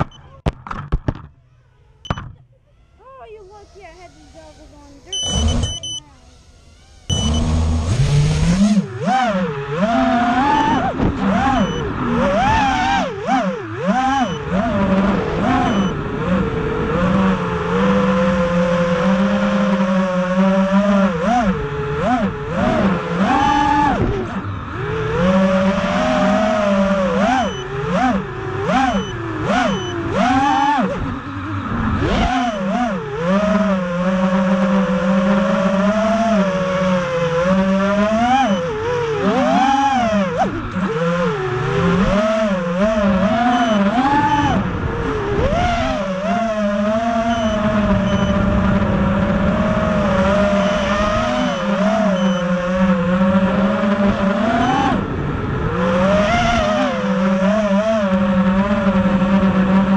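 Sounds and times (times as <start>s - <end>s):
quadcopter motors whining: 1.4s - 59.9s.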